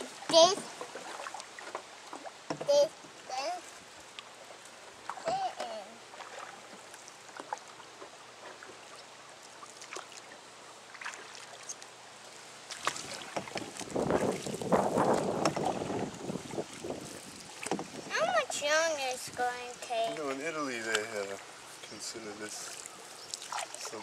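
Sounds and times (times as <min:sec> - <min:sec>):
small knocks and drips: 0:00.0 - 0:02.7, 0:04.1 - 0:11.9, 0:12.7 - 0:16.1, 0:16.7 - 0:18.6, 0:20.0 - 0:24.0
faint water noise: 0:00.0 - 0:24.0.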